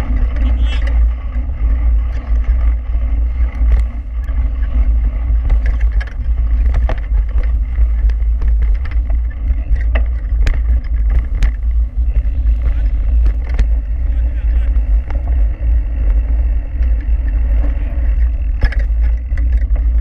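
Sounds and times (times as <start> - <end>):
bike parts clicking and rattling: 0.0 - 20.0
bike tyres rumbling on gravel: 0.0 - 20.0
wind buffeting microphone: 0.0 - 20.0.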